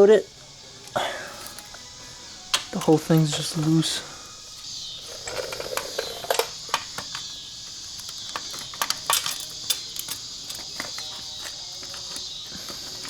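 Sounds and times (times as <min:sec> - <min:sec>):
crickets chirring: 0:00.0 - 0:13.0
metal tools clinking: 0:00.3 - 0:13.0.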